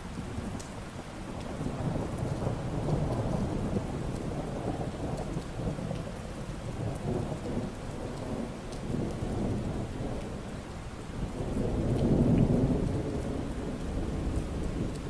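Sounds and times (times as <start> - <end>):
steady rain falling: 0.0 - 15.0
low rumble of thunder: 1.3 - 15.0.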